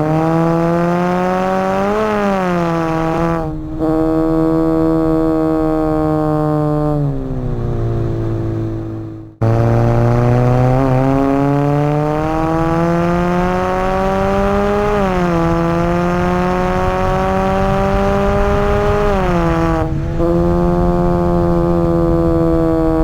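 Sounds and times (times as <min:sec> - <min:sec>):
car exhaust accelerating: 0:00.0 - 0:23.0.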